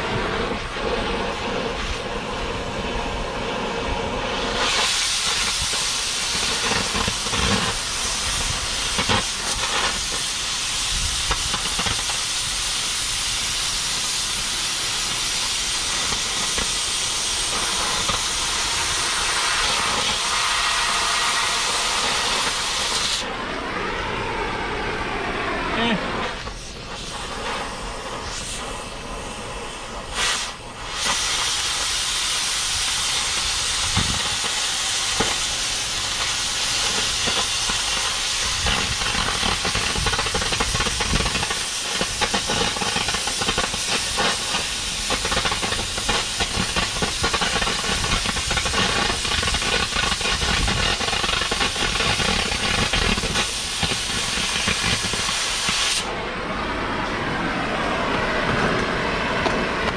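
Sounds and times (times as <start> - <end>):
cutting torch hissing: 0.0 - 59.9.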